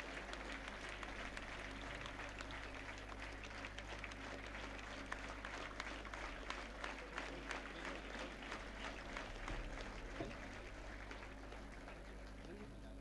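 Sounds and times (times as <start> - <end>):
audience clapping: 0.0 - 13.0
low electrical hum: 0.0 - 13.0.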